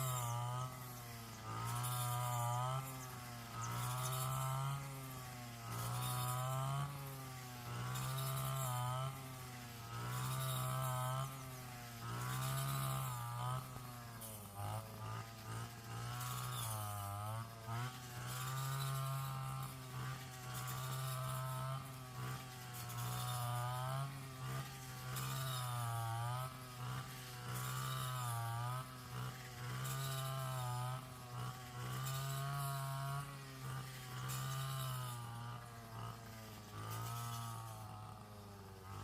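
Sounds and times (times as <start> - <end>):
small petrol engine running: 0.0 - 39.0.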